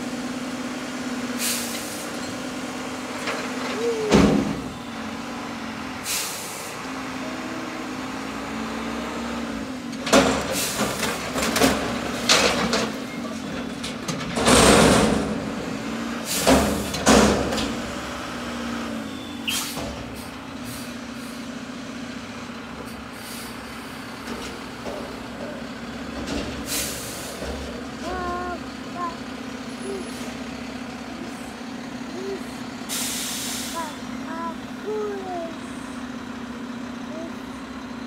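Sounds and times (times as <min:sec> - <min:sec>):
garbage truck engine running: 0:00.0 - 0:38.0.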